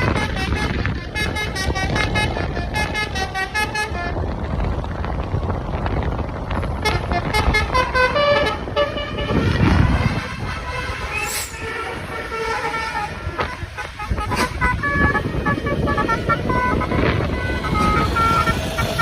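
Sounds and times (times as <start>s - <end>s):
musical air horn tune: 0.0s - 4.2s, 6.8s - 19.0s
low engine rumble: 0.0s - 19.0s.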